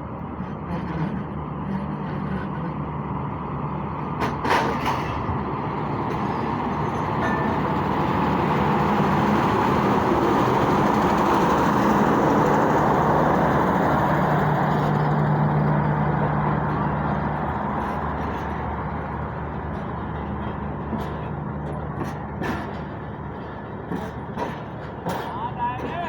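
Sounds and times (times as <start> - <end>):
locomotive engine humming: 0.0 - 26.0
train coaches rolling: 0.0 - 26.0.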